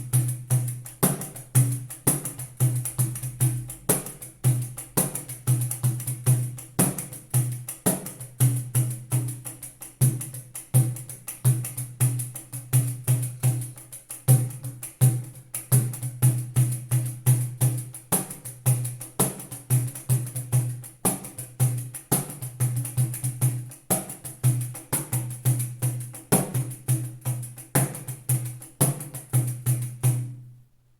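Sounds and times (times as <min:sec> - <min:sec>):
pandeiro rhythm with jingles: 0:00.0 - 0:30.4.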